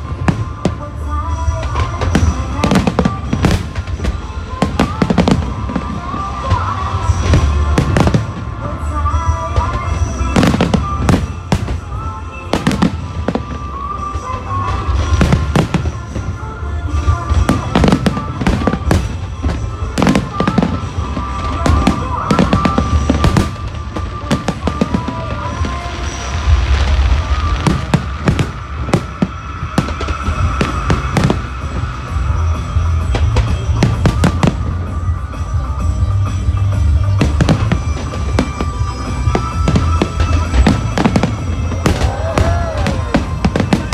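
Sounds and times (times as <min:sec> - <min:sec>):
fireworks bangs and crackles: 0:00.0 - 0:43.9
music playing: 0:00.0 - 0:43.9.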